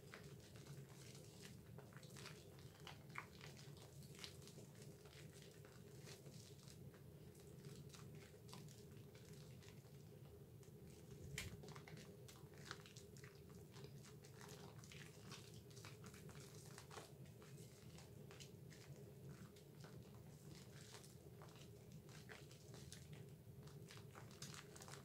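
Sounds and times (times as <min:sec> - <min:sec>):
wet squishing of lather: 0:00.0 - 0:25.0.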